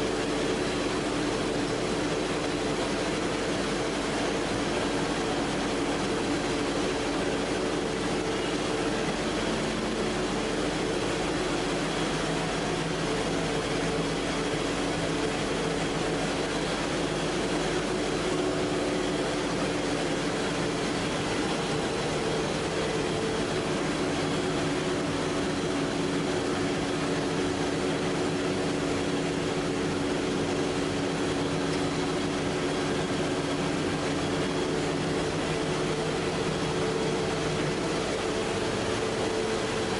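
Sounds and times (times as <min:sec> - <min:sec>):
machine hum and whir: 0:00.0 - 0:39.9.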